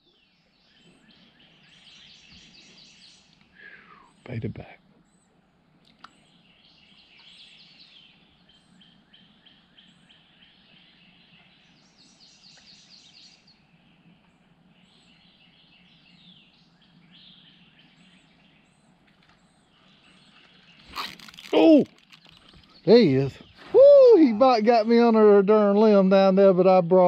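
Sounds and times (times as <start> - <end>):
birds chirping and trilling: 0.0 - 27.0.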